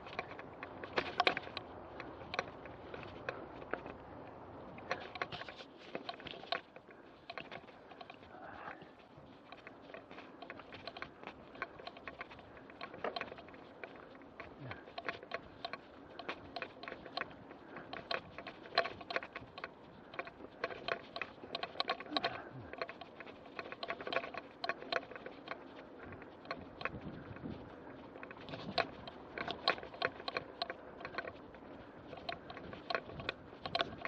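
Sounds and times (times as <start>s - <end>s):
mountain bike rattling over dirt: 0.0s - 34.0s.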